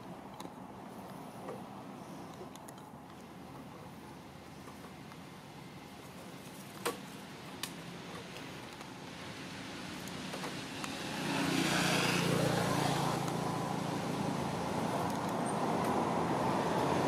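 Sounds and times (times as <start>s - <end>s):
motor vehicle engine humming: 0.0s - 17.0s.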